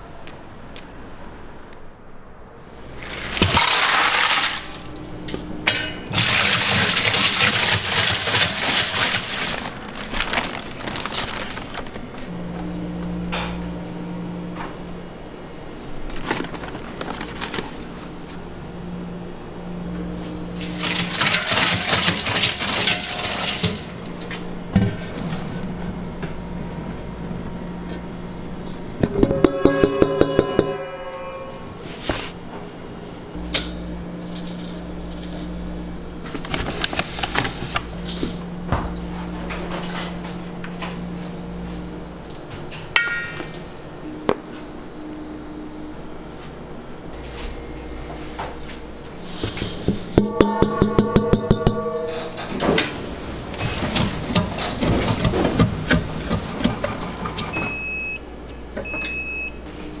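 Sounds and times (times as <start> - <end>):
low machine hum: 0.0 - 60.0.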